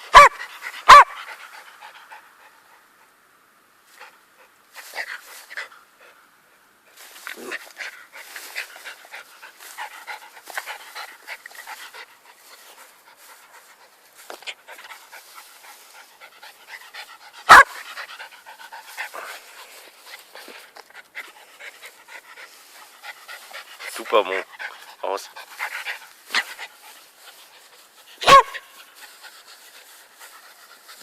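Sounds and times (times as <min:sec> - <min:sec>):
dog panting: 0:00.2 - 0:02.9, 0:07.3 - 0:31.0.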